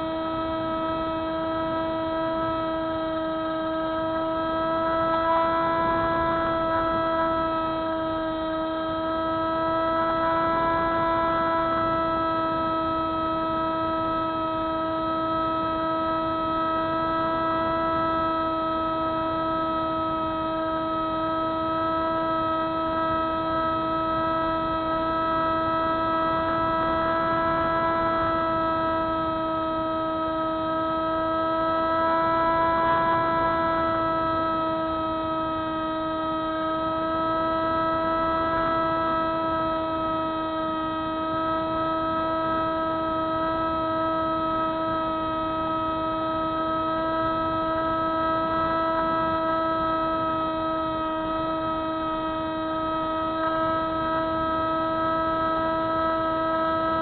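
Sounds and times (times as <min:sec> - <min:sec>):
model plane motor droning: 0:00.0 - 0:57.0.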